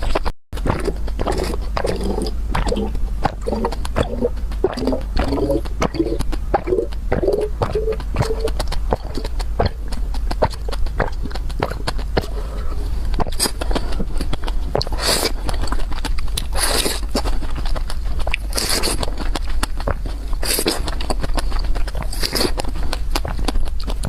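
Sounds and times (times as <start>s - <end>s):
mouth clicks: 0.0s - 24.0s
wet chewing: 0.0s - 24.0s.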